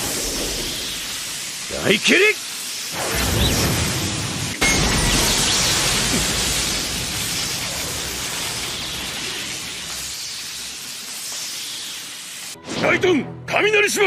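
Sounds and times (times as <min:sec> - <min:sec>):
crackling electric hiss: 0:00.0 - 0:12.6.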